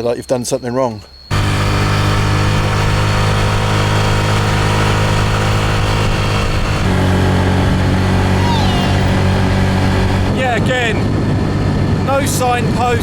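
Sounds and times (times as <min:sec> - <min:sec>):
moped engine running: 0:01.3 - 0:12.9.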